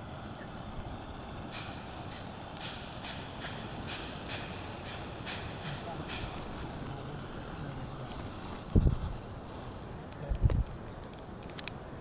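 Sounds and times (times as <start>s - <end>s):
camping stove burner running: 0.0s - 10.2s.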